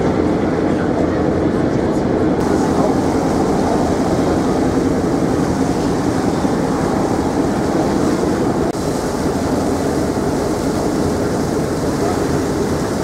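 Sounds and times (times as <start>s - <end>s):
ferry diesel engines droning: 0.0s - 12.9s
water rushing along hull: 0.0s - 13.0s.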